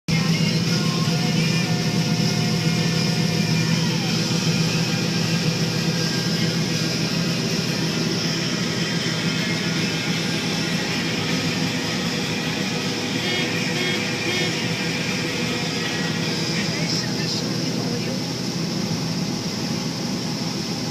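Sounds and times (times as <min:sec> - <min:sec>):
combine harvester droning: 0:00.1 - 0:20.9.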